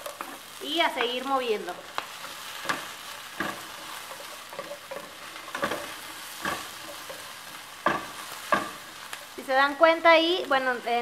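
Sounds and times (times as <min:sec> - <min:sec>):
wooden spatula scraping pan: 0:00.0 - 0:09.5
vegetables sizzling in oil: 0:00.0 - 0:11.0.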